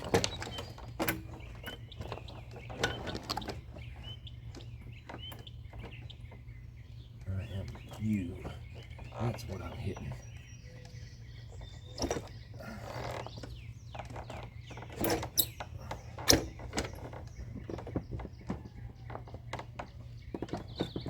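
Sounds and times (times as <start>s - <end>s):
hand tools clicking and clanking: 0.0s - 6.5s, 7.1s - 21.0s.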